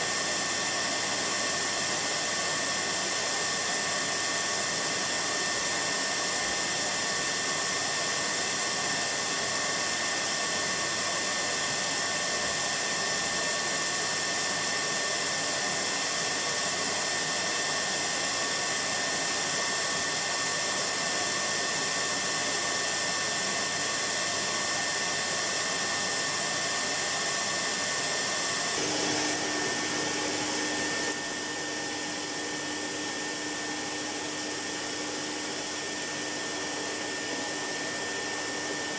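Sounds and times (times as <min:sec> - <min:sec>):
vacuum cleaner motor whining: 0:00.0 - 0:38.9.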